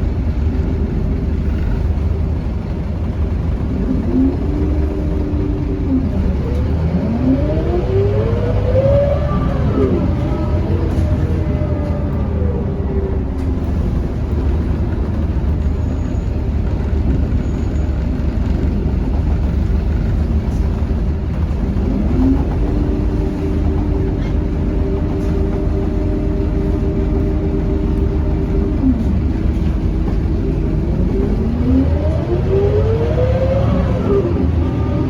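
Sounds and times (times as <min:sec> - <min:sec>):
bus diesel engine under way: 0:00.0 - 0:35.0.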